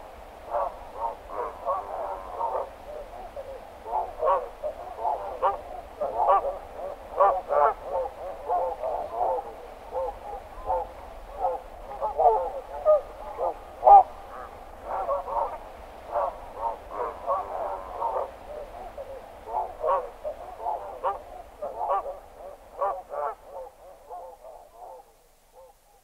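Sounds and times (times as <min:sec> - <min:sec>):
geese calling: 0:00.5 - 0:25.7.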